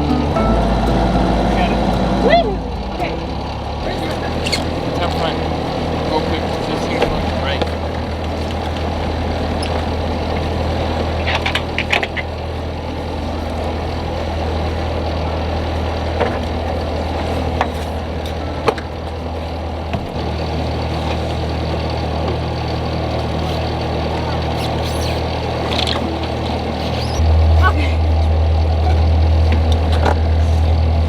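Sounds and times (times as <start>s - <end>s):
boat engine running steadily: 0.0s - 31.0s.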